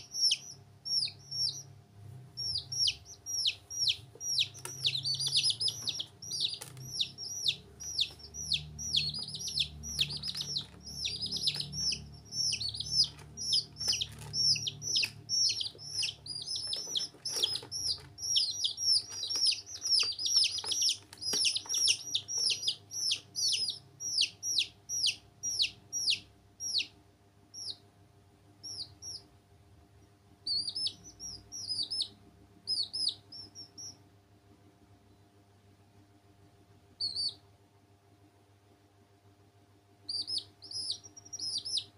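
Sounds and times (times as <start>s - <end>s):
baby chicks peeping: 0.0s - 27.9s, 28.6s - 29.4s, 30.0s - 34.1s, 37.0s - 37.5s, 40.0s - 41.9s.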